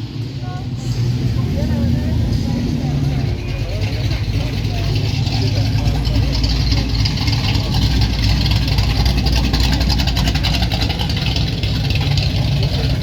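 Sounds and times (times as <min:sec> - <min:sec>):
car engine driving past: 0:00.0 - 0:13.0.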